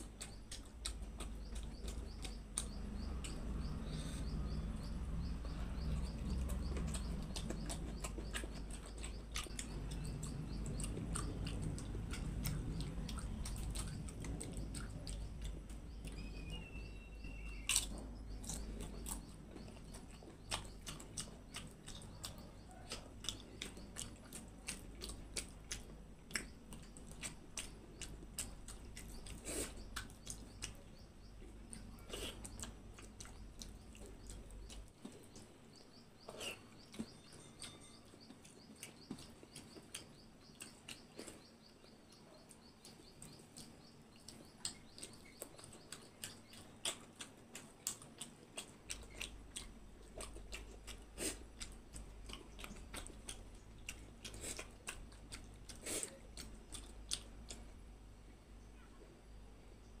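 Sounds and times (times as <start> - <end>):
wet mouth chewing clicks: 0.0 - 16.6, 17.3 - 57.9.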